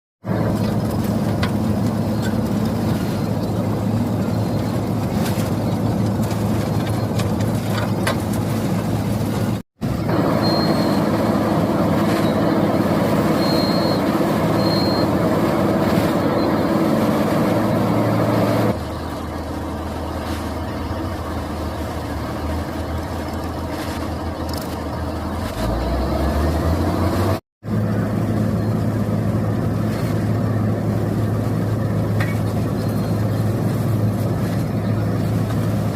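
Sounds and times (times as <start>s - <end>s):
cutting drum grinding road: 0.2s - 35.9s
milling machine diesel engine: 0.2s - 35.9s.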